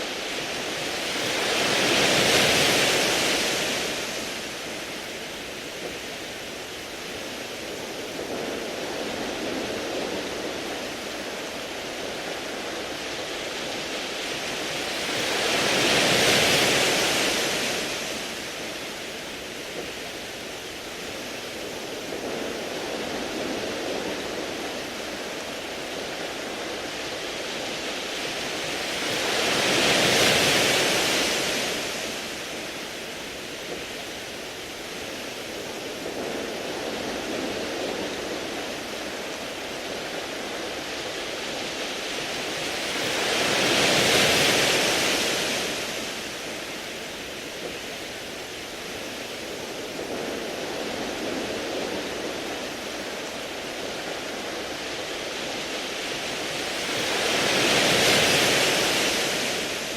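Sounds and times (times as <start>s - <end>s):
surf hissing: 0.0s - 59.9s
waves washing over pebbles: 0.0s - 59.9s.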